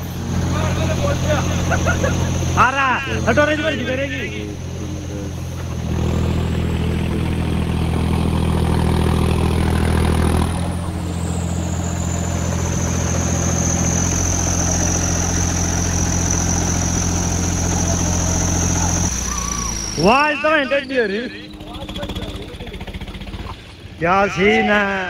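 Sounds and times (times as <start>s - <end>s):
tractor engine under load: 0.0s - 24.4s.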